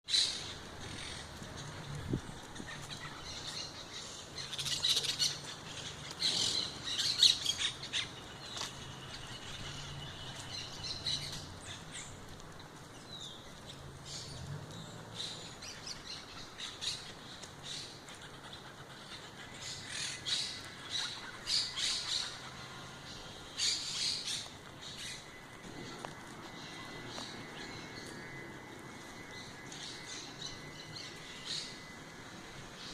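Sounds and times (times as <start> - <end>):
birds chirping and squawking: 0.1 - 32.9.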